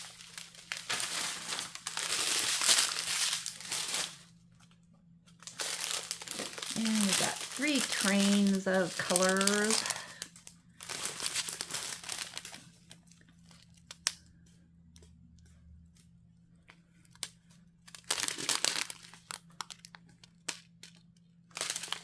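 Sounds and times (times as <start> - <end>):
plastic packaging crinkling: 0.0 - 14.2, 16.9 - 22.0.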